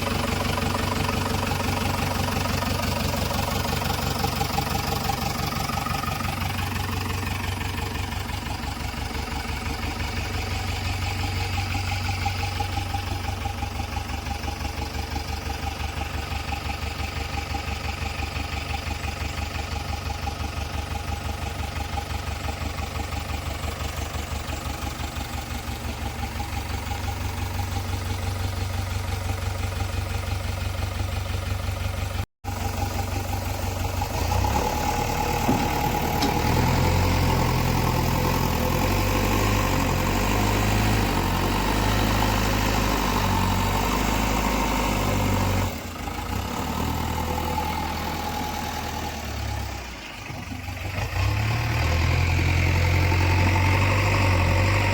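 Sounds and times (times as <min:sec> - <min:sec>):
backhoe diesel engine working: 0:00.0 - 0:54.9.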